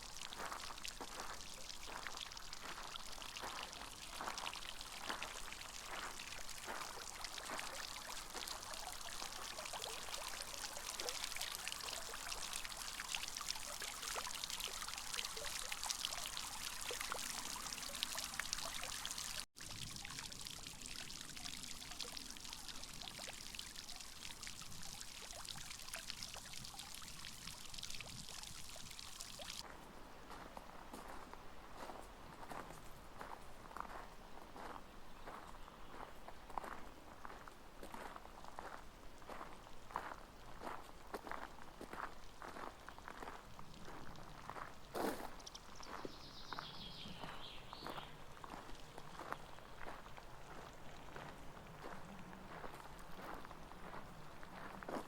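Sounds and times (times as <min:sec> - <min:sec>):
water pouring and splashing: 0:00.0 - 0:29.7, 0:38.6 - 0:46.3, 0:47.1 - 0:55.0.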